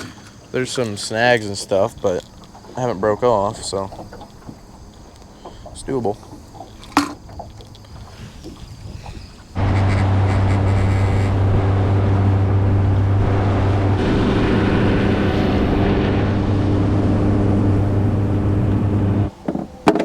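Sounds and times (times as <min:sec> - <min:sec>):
outboard motor running: 0:00.0 - 0:19.3.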